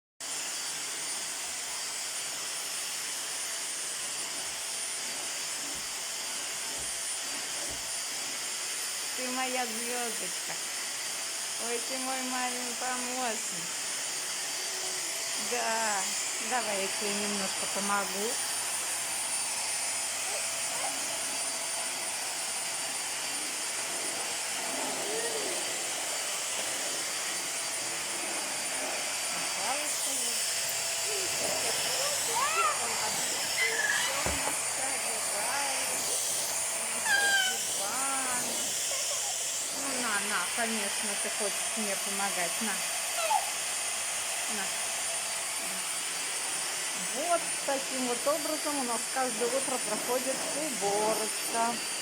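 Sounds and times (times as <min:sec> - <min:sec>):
vacuum cleaner running: 0:00.2 - 0:52.0.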